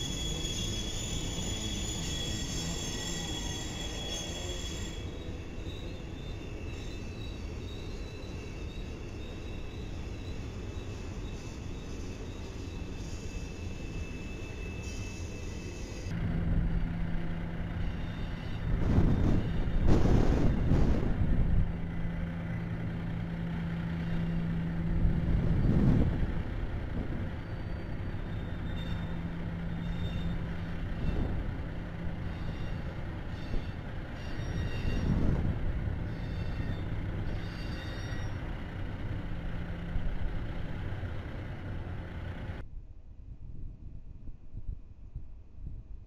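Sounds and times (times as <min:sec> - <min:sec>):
faint high wheel squeaks: 0:00.0 - 0:20.6, 0:22.4 - 0:42.6
train wheels rumbling on rail: 0:00.0 - 0:42.7.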